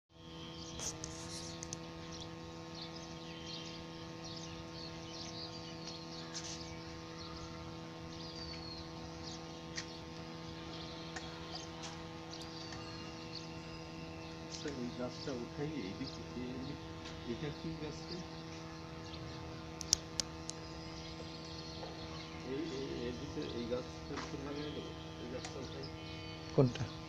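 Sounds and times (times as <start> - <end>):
steady electrical hum: 0.1 - 27.0.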